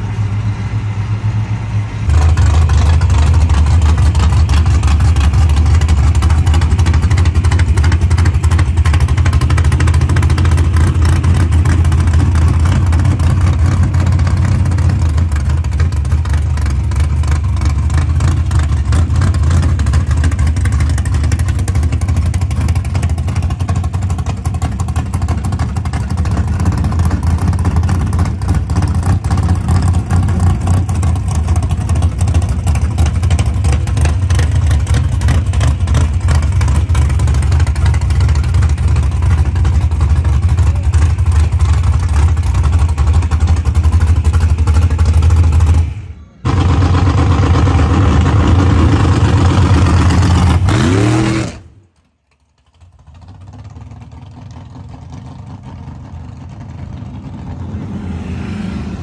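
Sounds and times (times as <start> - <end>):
engine idling loudly: 0.0 - 52.0, 52.6 - 59.0.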